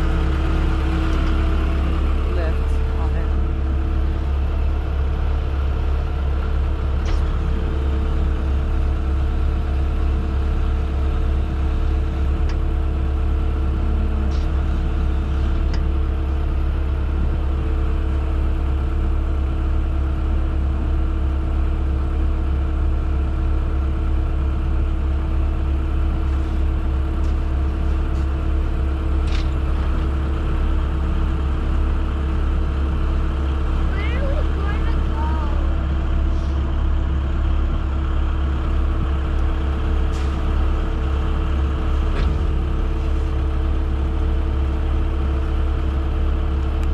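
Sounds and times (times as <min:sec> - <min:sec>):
engine droning: 0:00.0 - 0:46.9.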